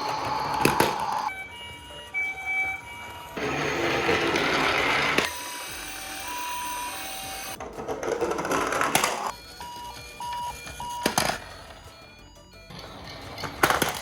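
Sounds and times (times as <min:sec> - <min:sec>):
toy vehicle mechanism whirring: 0:00.0 - 0:14.0.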